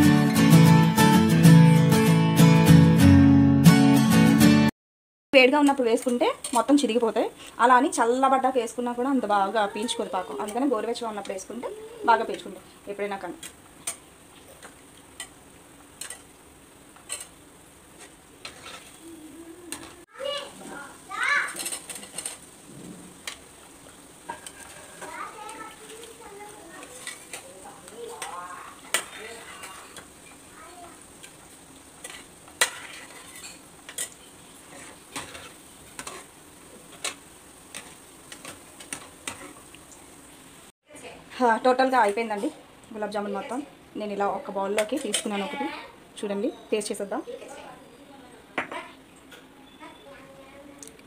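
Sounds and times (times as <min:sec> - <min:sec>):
oil frying hiss: 0:05.4 - 0:51.0.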